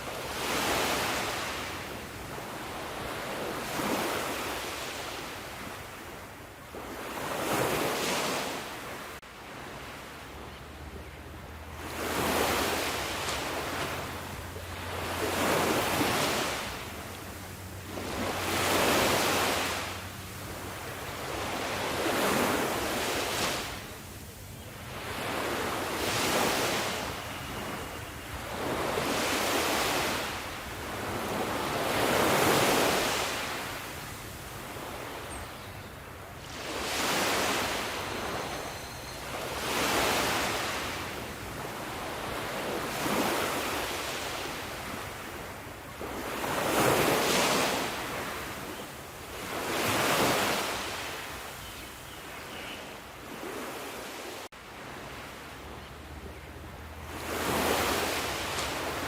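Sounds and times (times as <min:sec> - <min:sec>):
sea waves washing in: 0:00.0 - 0:35.2, 0:36.2 - 0:38.7, 0:39.3 - 0:51.5, 0:56.8 - 0:59.0.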